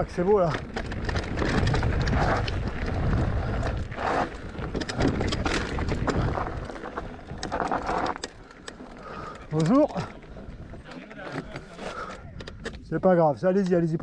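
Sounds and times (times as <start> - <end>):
tyres rolling on stones: 0.0 - 12.6
wind buffeting microphone: 0.0 - 13.0
bike clicks and rattles: 0.0 - 14.0.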